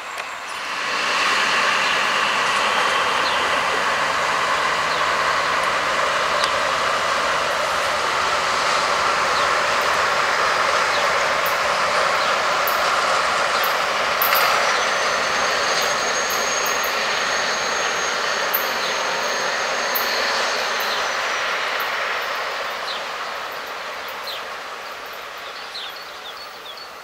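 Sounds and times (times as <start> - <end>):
diesel locomotive working: 0.0 - 27.0
train wheels rumbling on rails: 0.0 - 27.0
wheels squealing on curve: 0.5 - 23.0.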